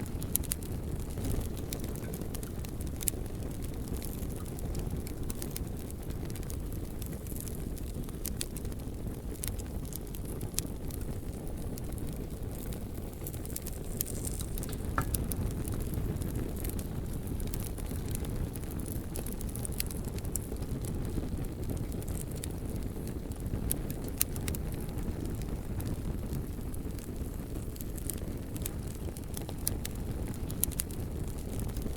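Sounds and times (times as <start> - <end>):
bonfire flames roaring: 0.0 - 31.9
burning wood crackling: 0.0 - 31.9.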